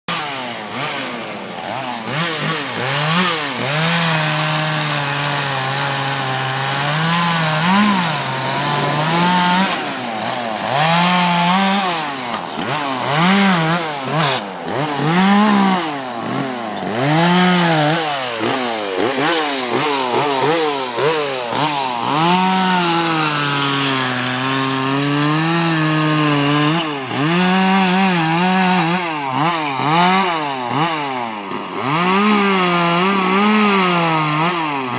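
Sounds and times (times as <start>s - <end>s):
chainsaw revving cutting wood: 0.0s - 34.9s.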